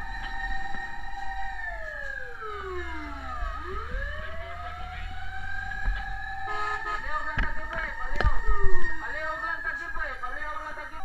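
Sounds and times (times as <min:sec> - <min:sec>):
fire truck siren wailing: 0:00.0 - 0:11.0
short choppy siren blips: 0:00.0 - 0:11.0.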